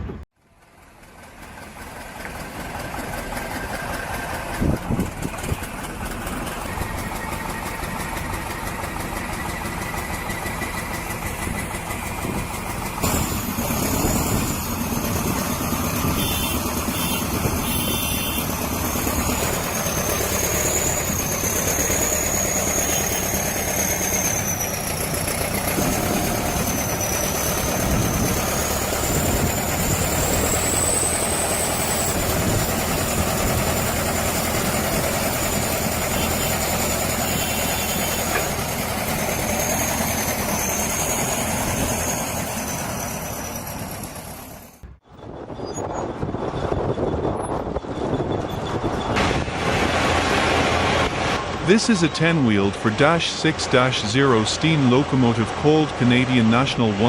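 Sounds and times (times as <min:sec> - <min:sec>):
another engine: 0:00.0 - 0:57.0
heavy vehicle engine running: 0:00.0 - 0:57.0.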